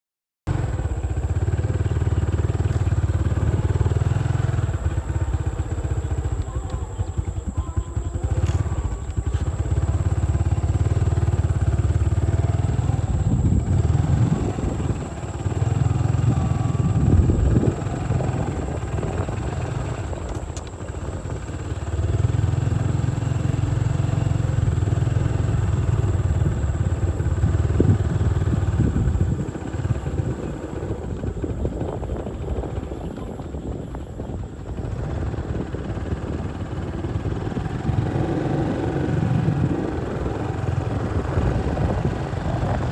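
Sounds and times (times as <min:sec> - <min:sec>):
motorcycle engine running: 0:00.5 - 0:42.9.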